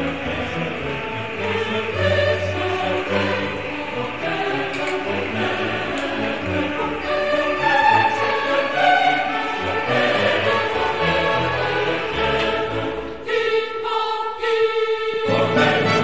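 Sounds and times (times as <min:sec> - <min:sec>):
background music with choral singing: 0:00.0 - 0:16.0.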